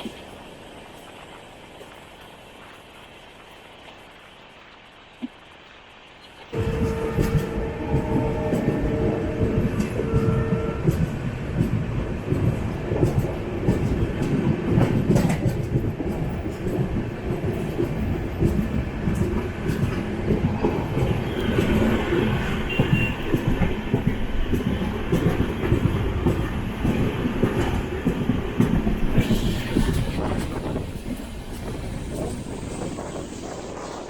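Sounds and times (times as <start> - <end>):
train wheels rumbling on rails: 6.4 - 34.0.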